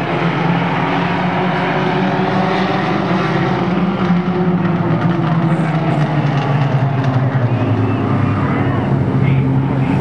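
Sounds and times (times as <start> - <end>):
race car engines at speed: 0.0 - 10.0.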